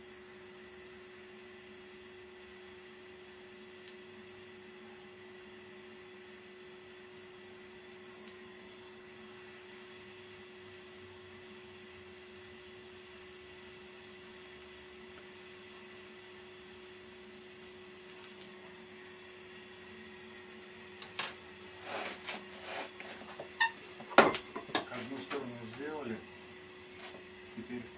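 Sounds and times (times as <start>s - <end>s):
torch flame hissing: 5.2s - 27.9s.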